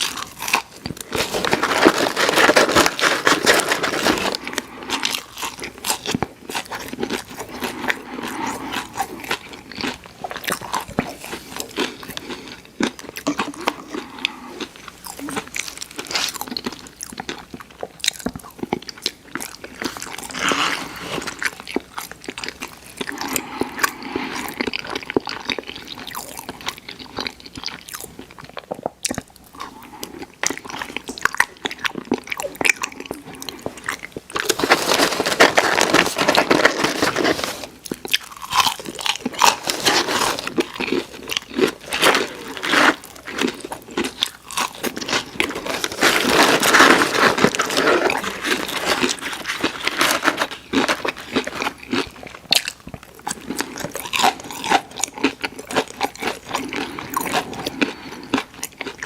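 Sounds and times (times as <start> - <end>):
chewing crunchy fried food: 0.0 - 59.0.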